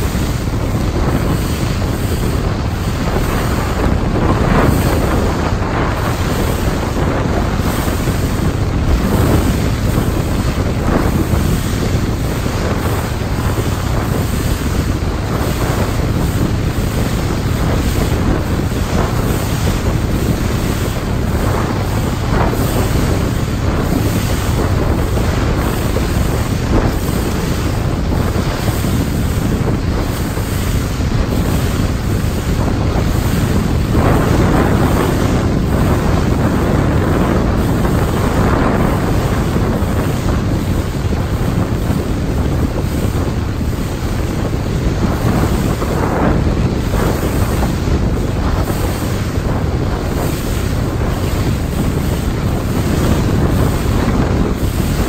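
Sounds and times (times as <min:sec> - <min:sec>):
loud water splashes: 0:00.0 - 0:55.0
water rushing against boat hull: 0:00.0 - 0:55.0
wind buffeting microphone: 0:00.0 - 0:55.0.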